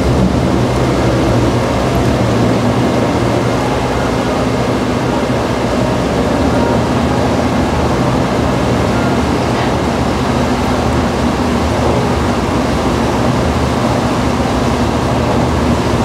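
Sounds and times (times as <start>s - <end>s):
boat engine humming: 0.0s - 16.0s
water rushing along hull: 0.0s - 16.0s
wind: 0.0s - 16.0s.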